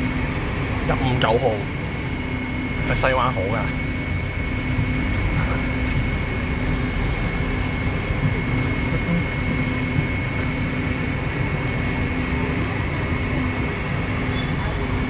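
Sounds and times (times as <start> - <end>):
high whine: 0.0 - 15.0
street traffic: 0.0 - 15.0
tram humming: 0.0 - 15.0.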